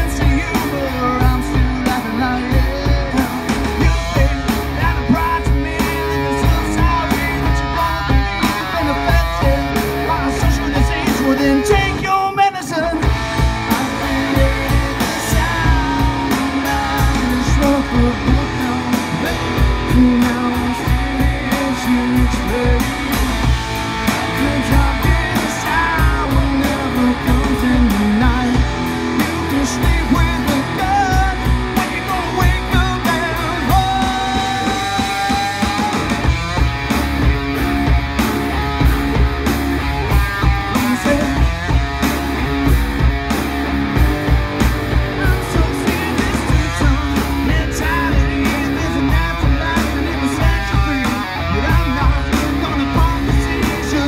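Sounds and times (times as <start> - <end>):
male singer: 0.0 - 23.5, 24.1 - 36.6, 40.1 - 41.8, 45.0 - 54.0
drum kit beat: 0.0 - 54.0
electric guitars and bass: 0.0 - 54.0.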